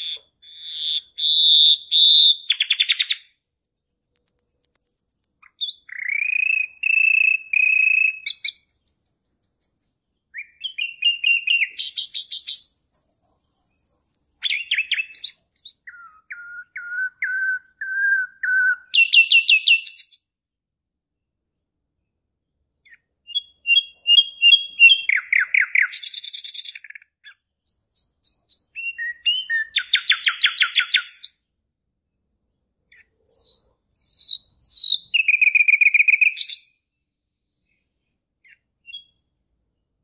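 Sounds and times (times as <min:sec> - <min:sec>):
songbird singing: 0:00.0 - 0:20.4, 0:22.8 - 0:31.5, 0:32.9 - 0:39.4.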